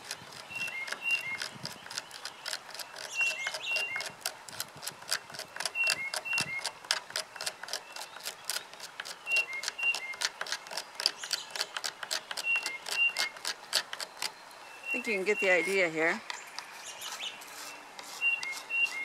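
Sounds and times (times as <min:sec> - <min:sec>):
jigsaw blade scraping wood: 0:00.0 - 0:14.4, 0:15.6 - 0:19.0.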